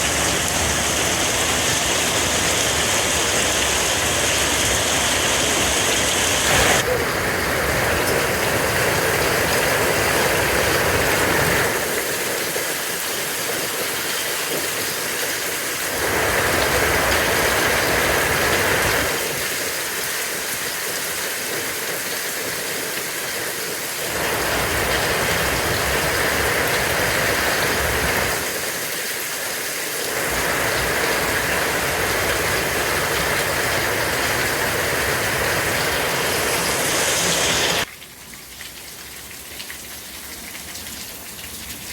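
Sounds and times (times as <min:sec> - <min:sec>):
hail and rain pelting down: 0:00.0 - 0:37.9.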